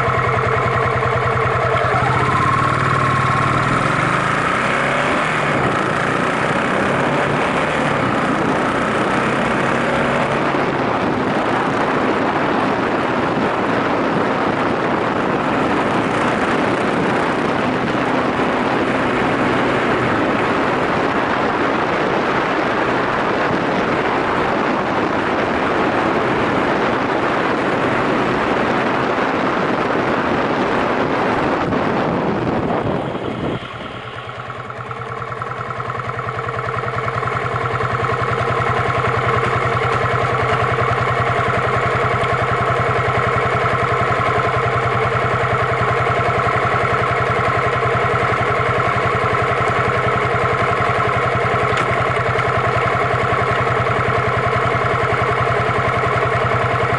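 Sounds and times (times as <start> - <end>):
motorcycle engine running: 0.0 - 56.9
wind and road noise: 0.0 - 56.9.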